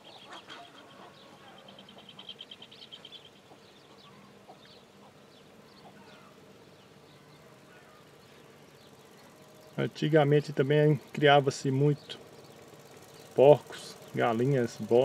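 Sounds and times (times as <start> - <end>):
bird trilling and chirping: 0.0 - 15.0.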